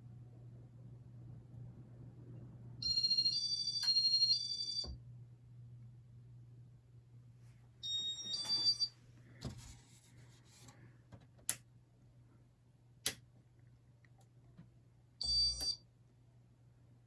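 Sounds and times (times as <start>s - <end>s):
steady low hum: 0.0s - 3.4s, 5.0s - 17.0s.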